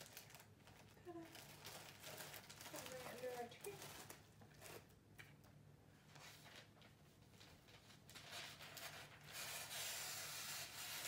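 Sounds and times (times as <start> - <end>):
wrapping paper crinkling: 0.0 - 5.0, 6.0 - 11.0.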